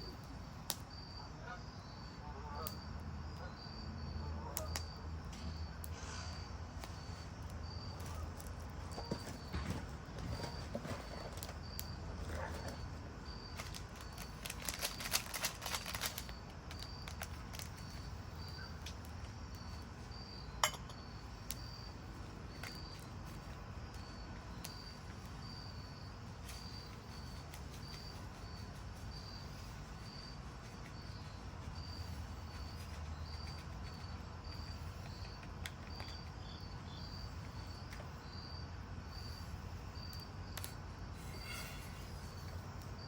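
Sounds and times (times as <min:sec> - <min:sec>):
cricket chirping: 0:00.0 - 0:43.0.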